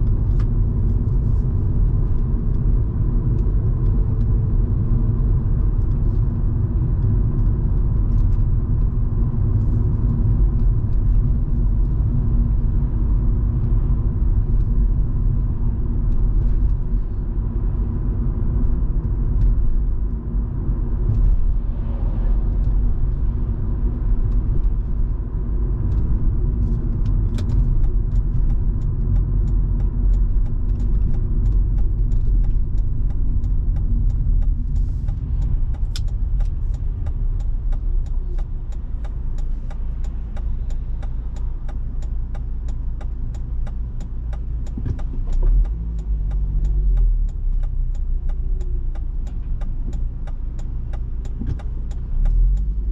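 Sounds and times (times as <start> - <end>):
car engine hum: 0.0 - 52.9
road and tyre rumble: 0.0 - 52.9.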